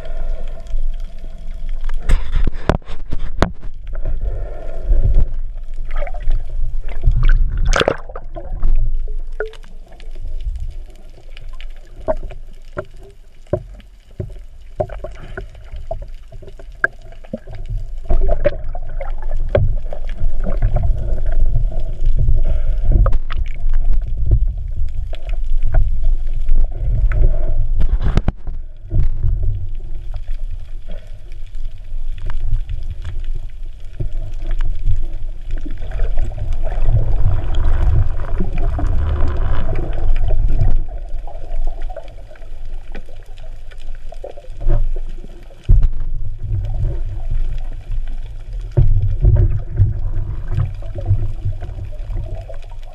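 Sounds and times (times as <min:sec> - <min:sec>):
muffled underwater rumble: 0:00.0 - 0:52.9.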